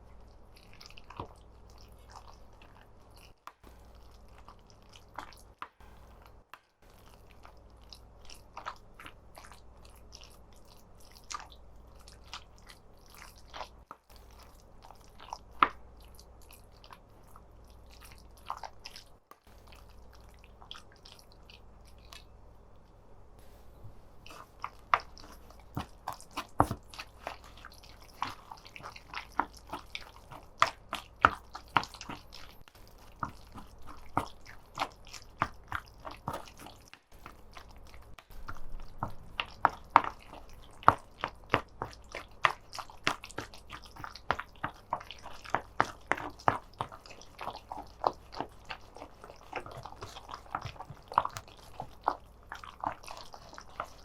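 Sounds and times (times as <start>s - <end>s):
sticky clicks of mixture kneaded: 0.0s - 54.0s.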